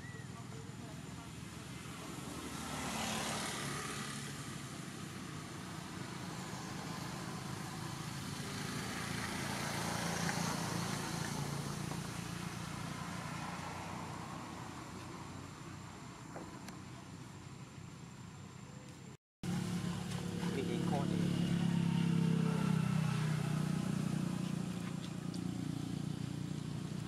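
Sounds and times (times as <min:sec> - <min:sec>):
vehicle engine hum: 0:00.0 - 0:27.0
vehicles passing: 0:00.0 - 0:27.0.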